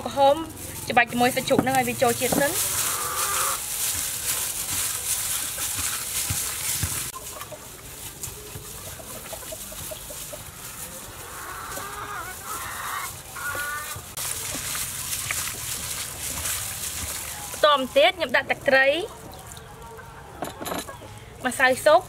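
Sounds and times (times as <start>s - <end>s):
gloved hand kneading meat: 0.0s - 20.2s
chickens clucking: 0.0s - 21.6s.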